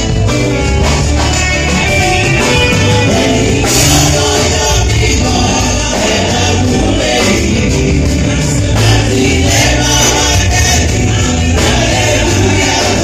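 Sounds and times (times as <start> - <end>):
gospel choir singing: 0.0 - 13.0
strong bass: 0.0 - 13.0.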